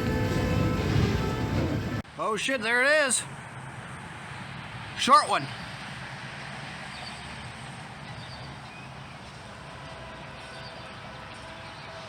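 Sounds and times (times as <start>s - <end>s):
distant diesel locomotive rumble: 0.0s - 12.0s
outdoor background noise: 0.0s - 12.0s.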